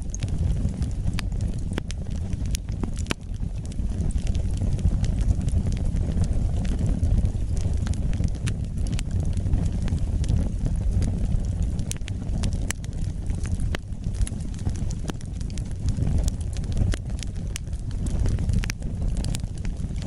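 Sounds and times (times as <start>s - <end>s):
fire flames rumbling: 0.0s - 20.0s
wood fire crackling: 0.0s - 20.0s.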